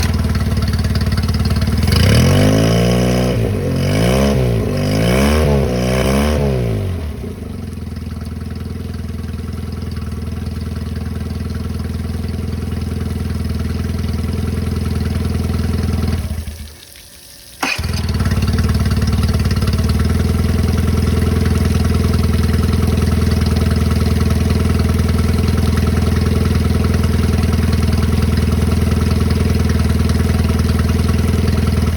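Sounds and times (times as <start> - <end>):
outboard motor running: 0.0 - 31.9.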